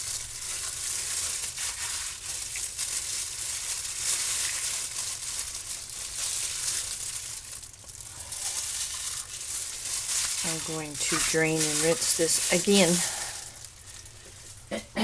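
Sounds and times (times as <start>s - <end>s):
plastic gloves crinkling: 0.0s - 14.7s
wet raw chicken squelching: 0.0s - 14.7s.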